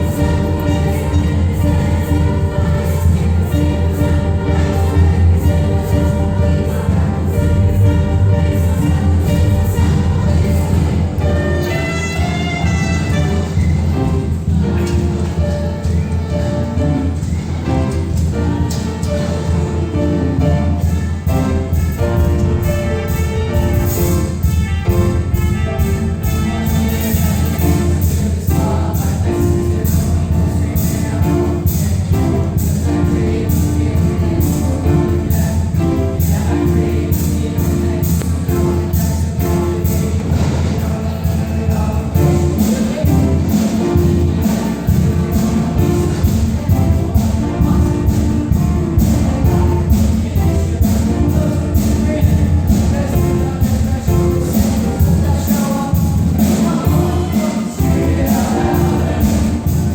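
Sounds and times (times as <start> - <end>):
band with steady beat: 0.0 - 59.9
choir singing: 0.0 - 59.9.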